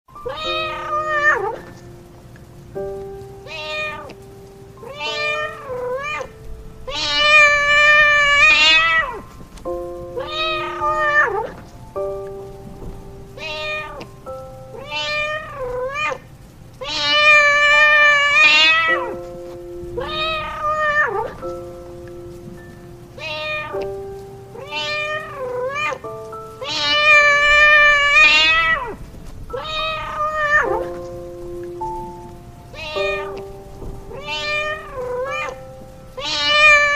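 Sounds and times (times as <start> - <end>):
background music with held notes: 0.1 - 36.9
cat meowing: 0.2 - 1.9, 3.4 - 4.2, 4.8 - 9.3, 10.2 - 11.8, 13.3 - 19.2, 20.0 - 21.7, 23.2 - 36.9.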